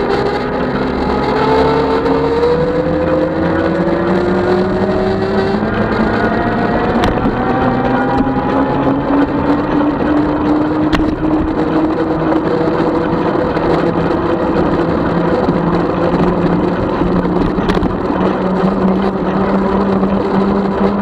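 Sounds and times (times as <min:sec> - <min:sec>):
electric bike motor whining: 0:00.0 - 0:21.0
rolling and wind noise: 0:00.0 - 0:21.0.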